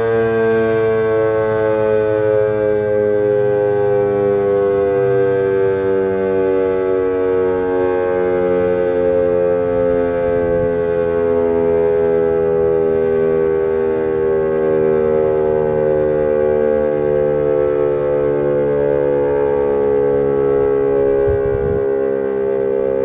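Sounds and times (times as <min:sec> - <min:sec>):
warning siren steady tone: 0:00.0 - 0:23.0.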